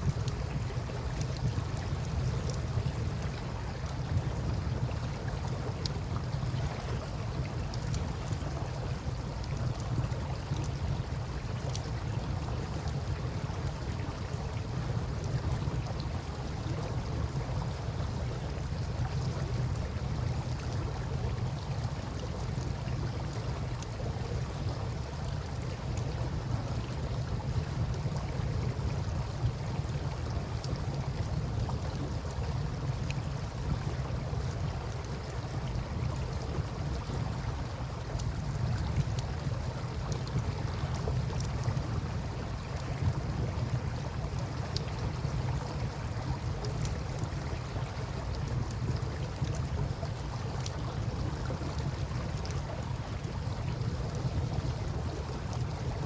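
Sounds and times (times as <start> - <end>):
campfire crackling: 0.0 - 56.0
river water washing: 0.0 - 56.0.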